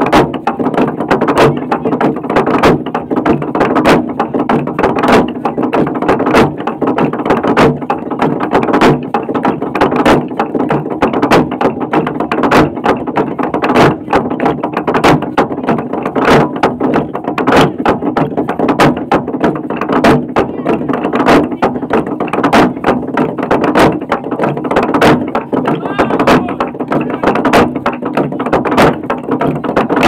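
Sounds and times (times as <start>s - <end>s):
log drum pounded with wooden beaters: 0.0s - 30.0s.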